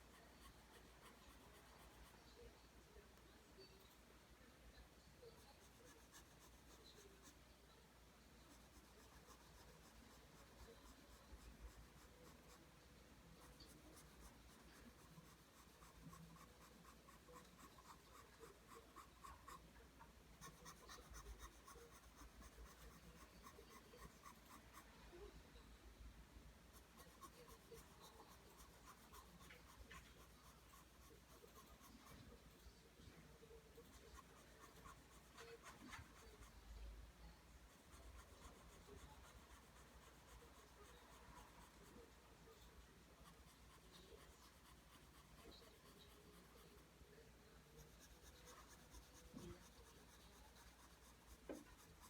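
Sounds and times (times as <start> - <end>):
pencil scratching on paper: 0.0 - 2.4, 5.2 - 7.4, 8.4 - 25.0, 26.7 - 36.9, 37.6 - 52.0.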